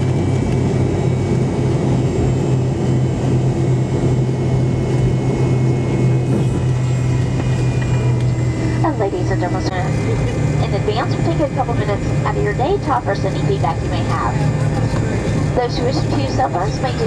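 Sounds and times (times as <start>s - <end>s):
jet engine low hum: 0.0s - 17.0s.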